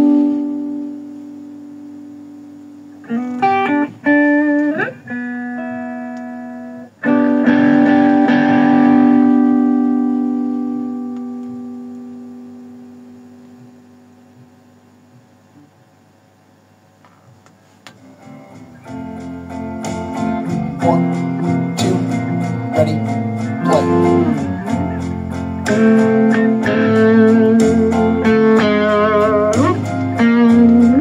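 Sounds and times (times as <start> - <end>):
electric guitar through amplifier: 0.0 - 31.0.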